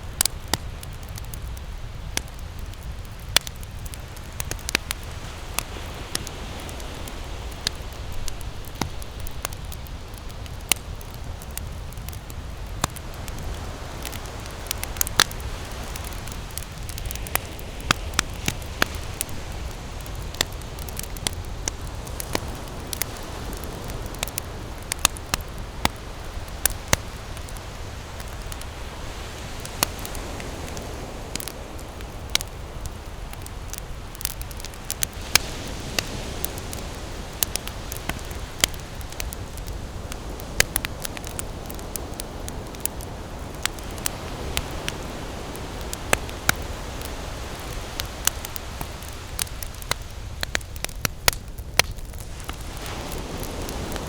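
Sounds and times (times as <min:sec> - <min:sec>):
campfire crackling and popping: 0:00.0 - 0:54.0
low fire rumble: 0:00.0 - 0:54.0.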